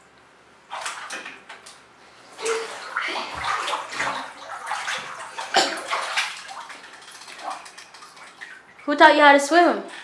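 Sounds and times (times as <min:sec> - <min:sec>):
bathtub water splashing: 0:00.7 - 0:10.0.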